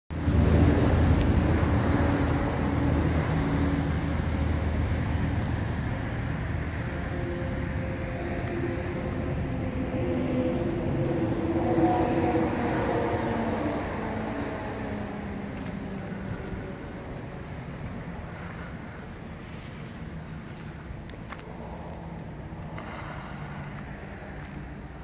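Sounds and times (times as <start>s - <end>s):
large vehicle engine idling: 0.1s - 25.0s.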